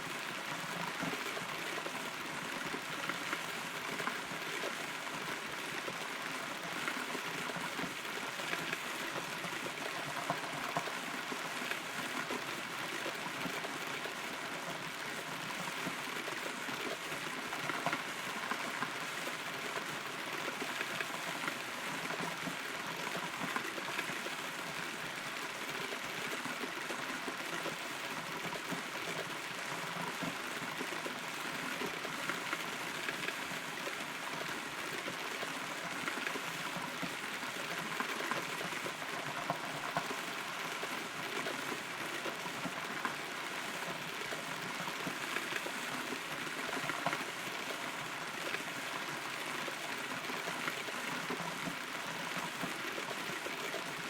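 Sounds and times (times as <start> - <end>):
rain dripping on hollow wood: 0.1 - 54.0.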